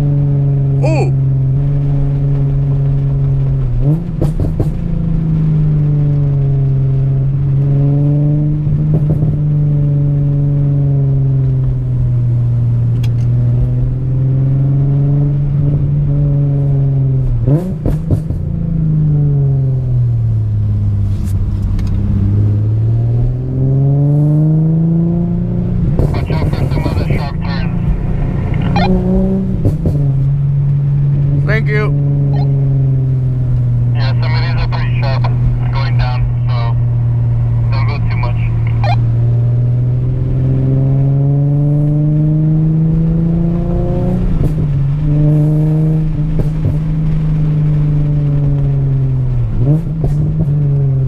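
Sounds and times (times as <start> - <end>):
car engine drone: 0.0 - 51.0.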